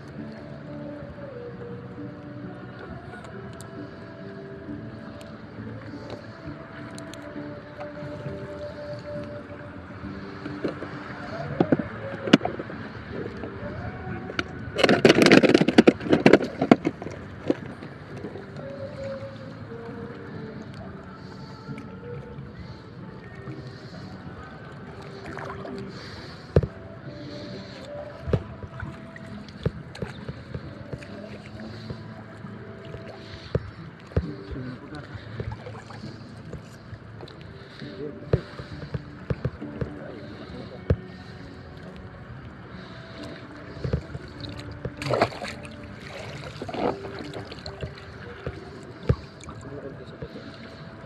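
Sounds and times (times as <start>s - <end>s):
water sloshing around wading person: 2.5s - 51.0s.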